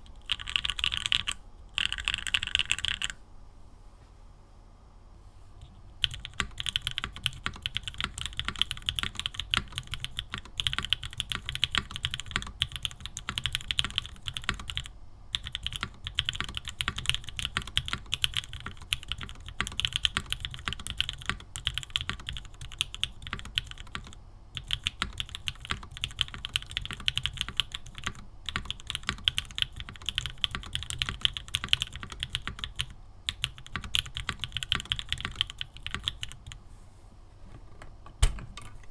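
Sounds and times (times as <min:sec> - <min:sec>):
mechanical keyboard typing: 0:00.1 - 0:03.2, 0:06.0 - 0:36.6.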